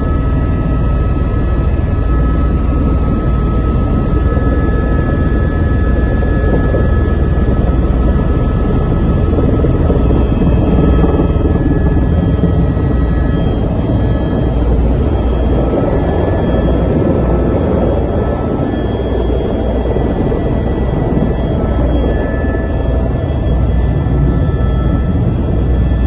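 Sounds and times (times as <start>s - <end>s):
faint steady whining tones: 0.0s - 26.0s
helicopter rotor and engine drone: 0.0s - 26.0s.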